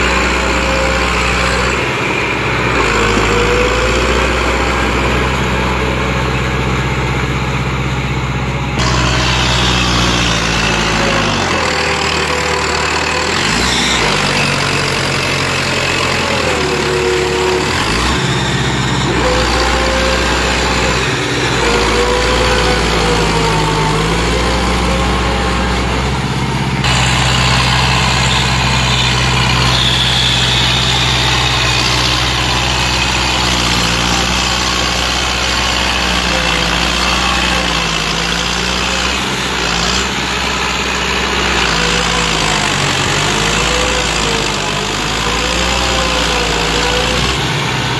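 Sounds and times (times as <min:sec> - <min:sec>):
tractor engine revving: 0:00.0 - 0:47.9.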